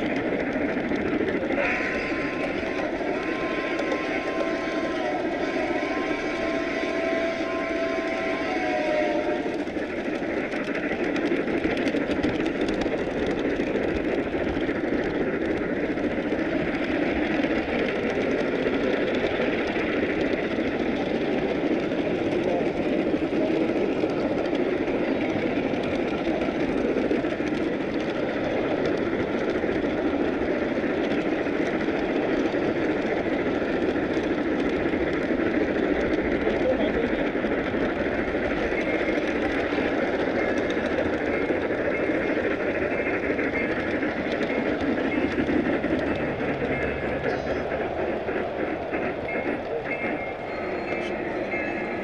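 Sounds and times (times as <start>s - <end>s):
model train rolling on track: 0.0s - 52.0s.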